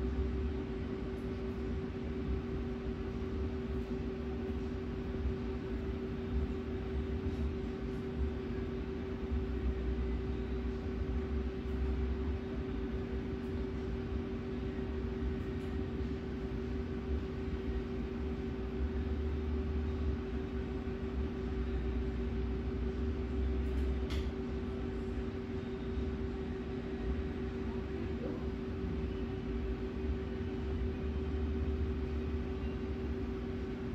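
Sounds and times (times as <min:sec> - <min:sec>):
room equipment hum: 0:00.0 - 0:33.9.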